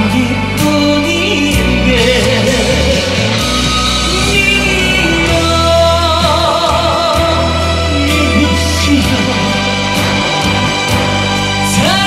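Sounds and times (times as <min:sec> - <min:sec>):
backing track with bass line: 0:00.0 - 0:12.0
man singing with vibrato: 0:00.0 - 0:12.0.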